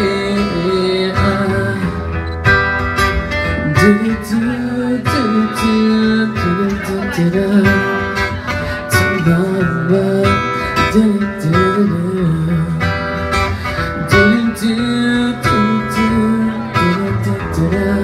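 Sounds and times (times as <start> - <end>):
person singing wordless melody: 0.0 - 2.2, 3.4 - 18.0
strummed acoustic guitar: 0.0 - 18.0.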